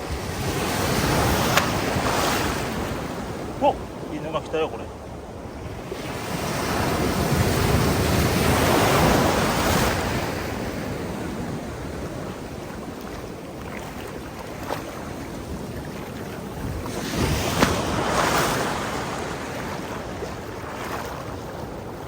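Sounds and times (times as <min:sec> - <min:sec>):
ocean wave breaking: 0:00.0 - 0:04.8, 0:05.6 - 0:22.0
wind buffeting microphone: 0:00.0 - 0:22.0.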